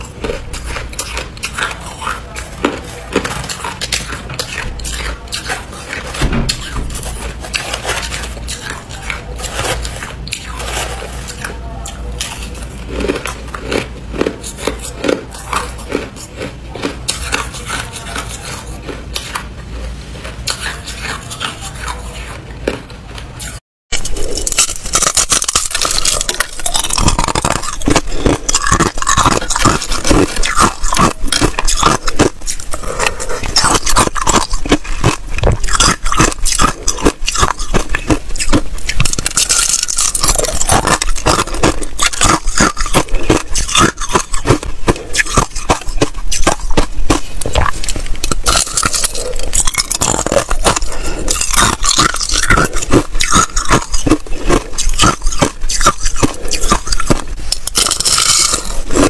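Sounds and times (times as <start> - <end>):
chewing crushed ice: 0.0 - 59.0.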